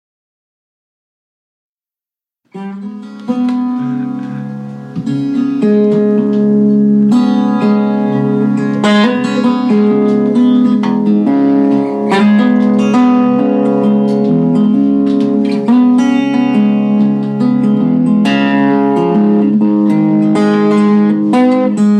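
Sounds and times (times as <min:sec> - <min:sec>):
acoustic guitar picking: 0:02.5 - 0:21.9.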